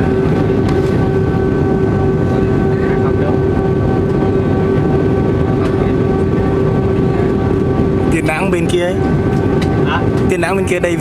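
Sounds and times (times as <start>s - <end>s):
aircraft engine drone in cabin: 0.0s - 11.0s
constant whining tones: 0.0s - 11.0s.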